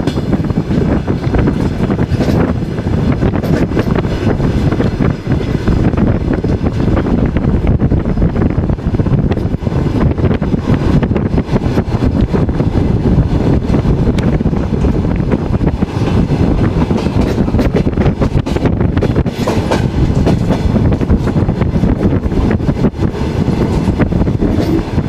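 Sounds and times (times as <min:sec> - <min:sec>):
railway carriage rumble: 0:00.0 - 0:25.0
wheels clattering on track: 0:00.0 - 0:25.0.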